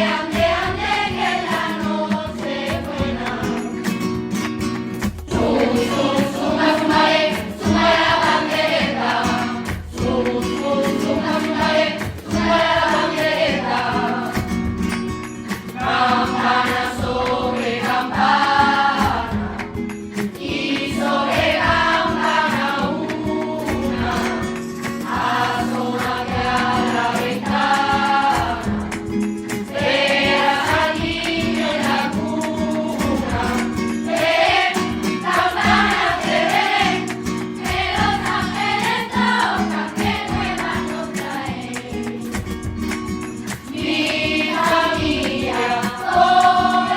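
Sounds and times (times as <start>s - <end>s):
choir singing a carol: 0.0s - 4.0s, 5.2s - 14.7s, 15.7s - 42.5s, 43.6s - 46.9s.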